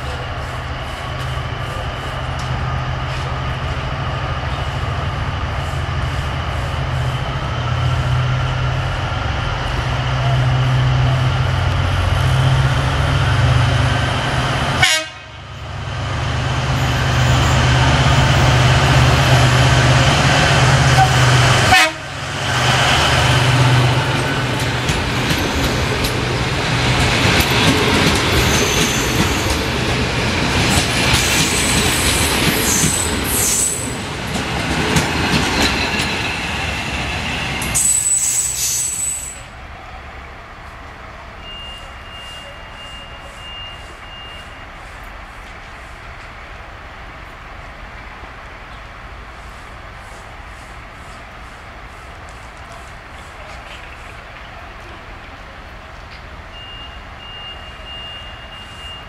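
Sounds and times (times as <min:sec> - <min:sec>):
diesel locomotive drone: 0:00.0 - 0:59.0
train wheels rolling on track: 0:00.0 - 0:59.0.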